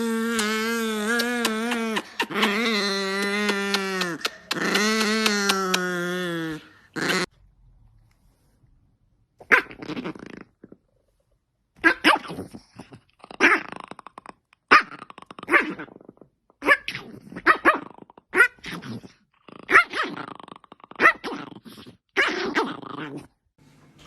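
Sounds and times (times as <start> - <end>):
dog barking and growling: 0.0 - 7.4, 9.4 - 10.8, 11.7 - 23.4.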